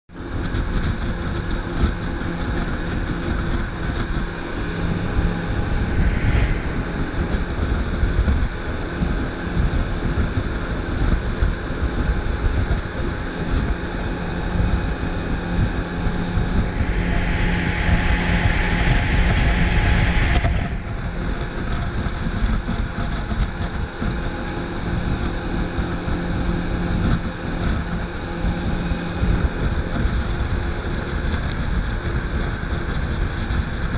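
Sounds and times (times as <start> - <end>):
motorboat engine running: 0.1 - 33.9
wind buffeting microphone: 0.2 - 33.9.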